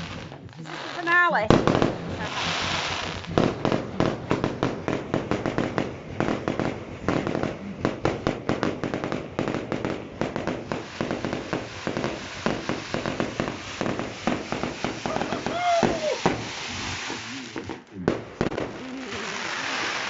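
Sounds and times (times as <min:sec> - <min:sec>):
crackling fireworks: 0:00.0 - 0:20.0.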